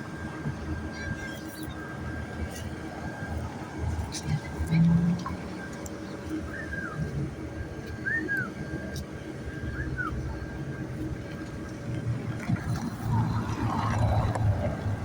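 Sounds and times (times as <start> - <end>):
faint steady whine: 0.0 - 15.0
low engine rumble: 0.0 - 15.0.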